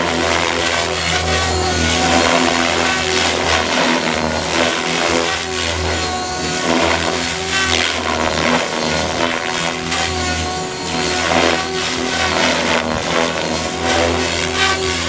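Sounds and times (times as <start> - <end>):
helicopter motor whine: 0.0 - 15.0.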